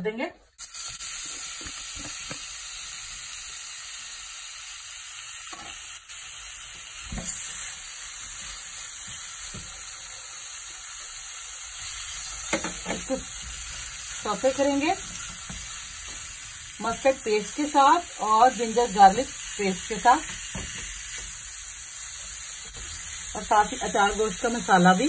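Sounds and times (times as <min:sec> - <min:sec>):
chicken sizzling in oil: 0:00.6 - 0:25.0.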